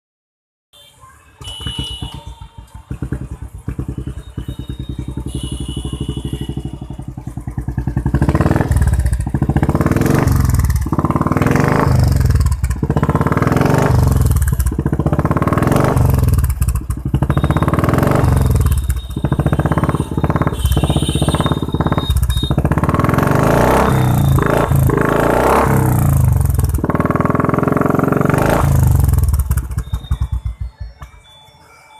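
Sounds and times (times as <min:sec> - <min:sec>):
motorcycle revving: 0:01.4 - 0:31.1
motorcycle idling: 0:01.4 - 0:31.3.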